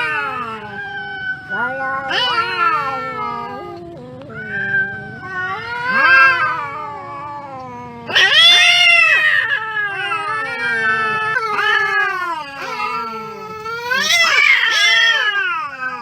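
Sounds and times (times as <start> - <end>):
cats yowling: 0.0 - 16.0.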